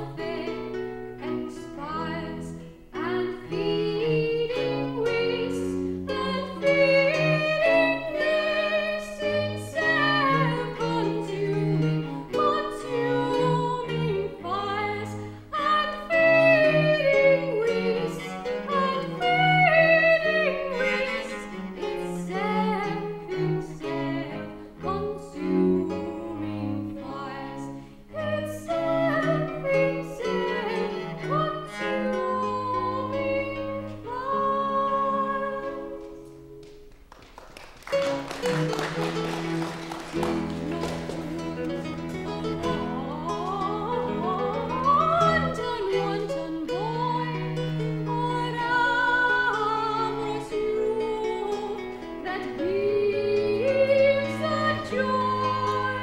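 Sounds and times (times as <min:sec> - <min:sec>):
cello: 0:00.0 - 0:56.0
classical guitar: 0:00.0 - 0:56.0
woman singing classical art song: 0:00.0 - 0:56.0.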